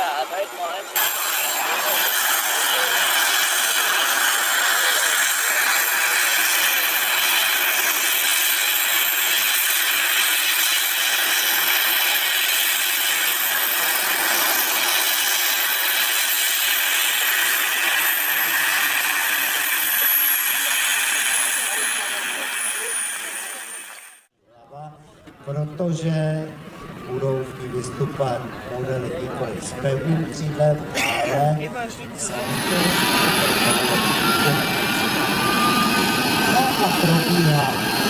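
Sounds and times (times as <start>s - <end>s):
gas turbine engine whining: 0.0s - 24.3s, 25.2s - 38.0s.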